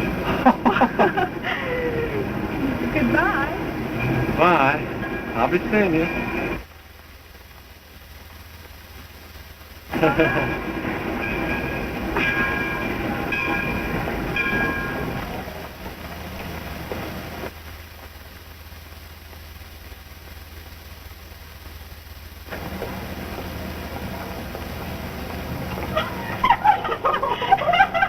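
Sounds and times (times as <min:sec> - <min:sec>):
faint hiss: 0:00.0 - 0:28.0
train rumbling: 0:00.0 - 0:28.0.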